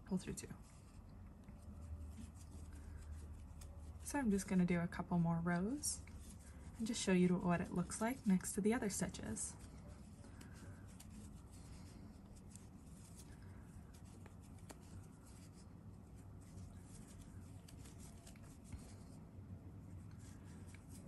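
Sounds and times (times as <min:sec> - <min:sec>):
crochet hook and yarn rustling: 0:00.0 - 0:21.0
low steady hum: 0:00.0 - 0:21.0.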